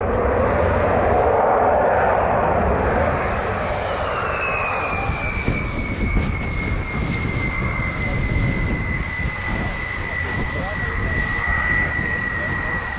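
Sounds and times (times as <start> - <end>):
high turbine whine: 0.0 - 12.9
jet engines rumbling: 0.0 - 12.9.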